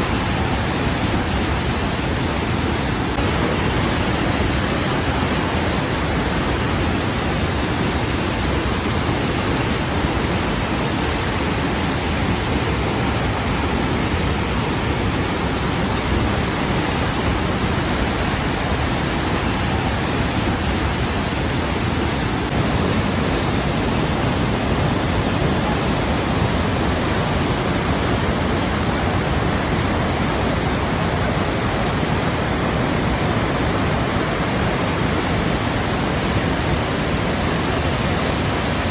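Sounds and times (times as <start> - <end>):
fast-flowing water rushing: 0.0 - 38.9.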